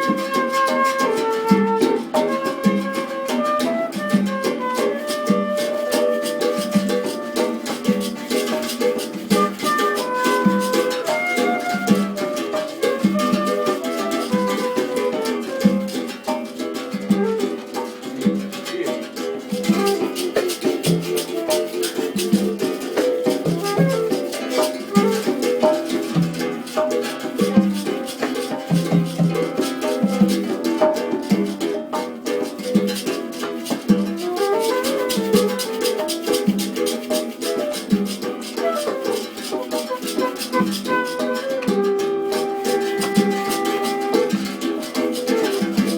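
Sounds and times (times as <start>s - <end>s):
hand-shaken rattle: 2.2s - 45.9s.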